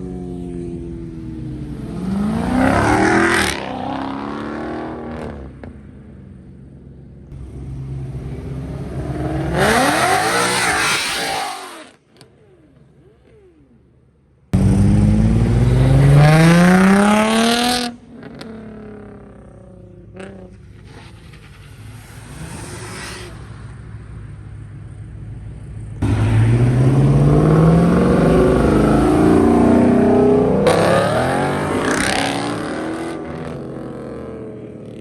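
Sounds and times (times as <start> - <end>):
car engines revving and accelerating: 0.0 - 13.9, 14.5 - 35.0.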